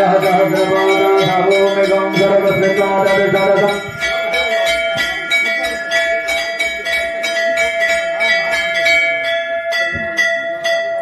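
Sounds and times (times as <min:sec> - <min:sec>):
bell rung rapidly: 0:00.0 - 0:11.0
voices: 0:00.0 - 0:11.0.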